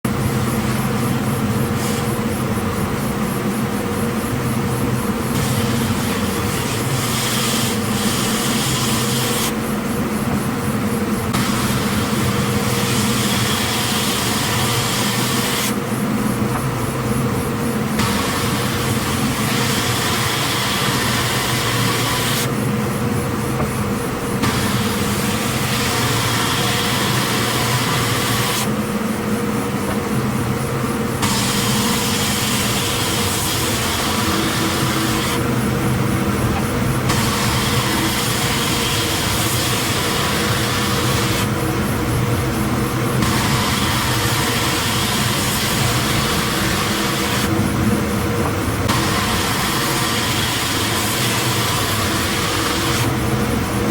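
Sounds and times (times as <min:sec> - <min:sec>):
belt sander motor hum: 0:00.1 - 0:53.9
high abrasive sanding hiss: 0:03.8 - 0:53.9.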